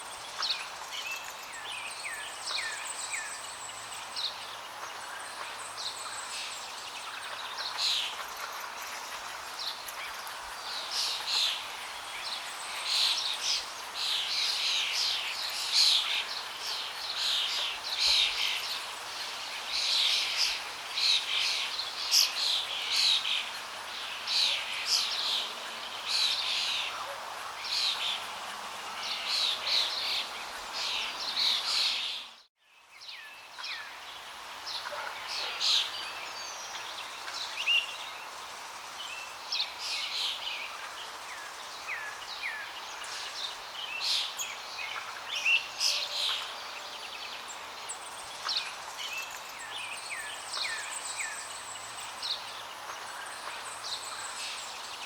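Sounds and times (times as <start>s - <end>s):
songbirds chirping and singing: 0.1s - 55.0s.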